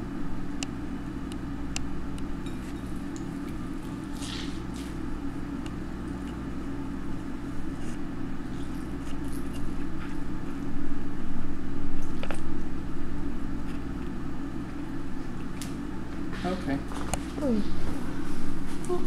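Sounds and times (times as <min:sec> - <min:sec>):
low mechanical hum with pulsing beat: 0:00.0 - 0:19.0.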